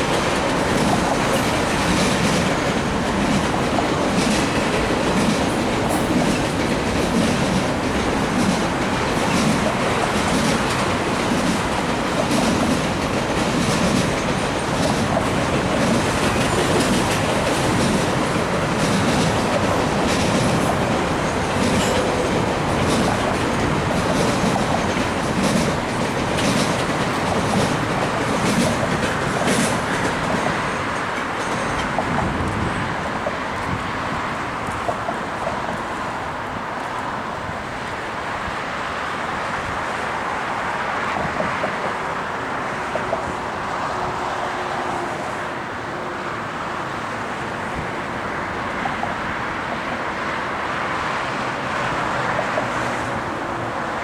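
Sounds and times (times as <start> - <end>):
wheels clicking over rail joints: 0.0 - 44.8
freight train wheels rumbling on rail: 0.0 - 54.0.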